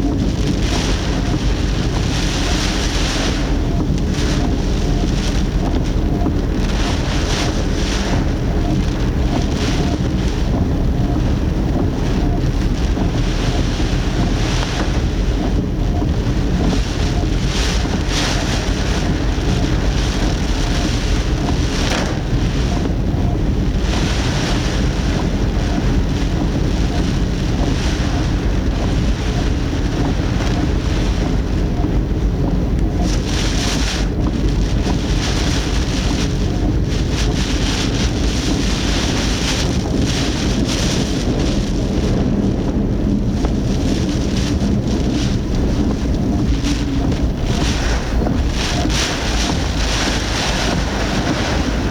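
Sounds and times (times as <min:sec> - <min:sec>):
gusts of wind and rain: 0:00.0 - 0:51.9
wind buffeting car: 0:00.0 - 0:51.9.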